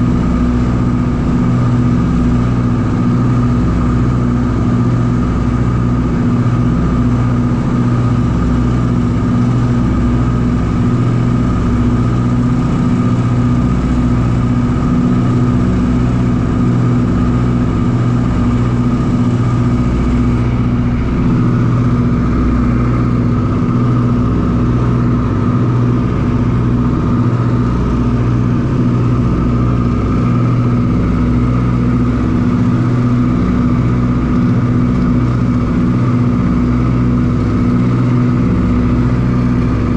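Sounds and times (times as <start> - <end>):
aircraft engines droning in flight: 0.0 - 39.9.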